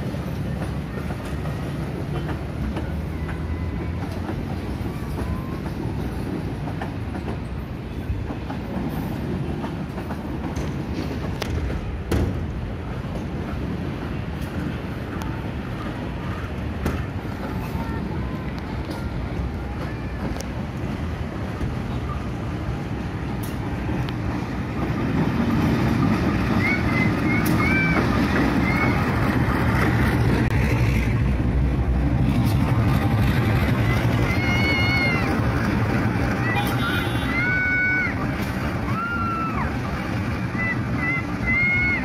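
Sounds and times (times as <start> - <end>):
train rumbling on track: 0.0 - 42.0
wheels clacking over rail joints: 0.0 - 42.0.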